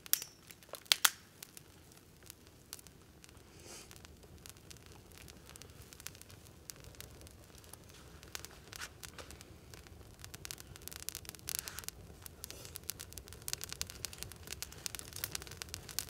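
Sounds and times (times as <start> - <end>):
campfire crackling and popping: 0.0 - 16.0
fire hissing: 0.0 - 16.0.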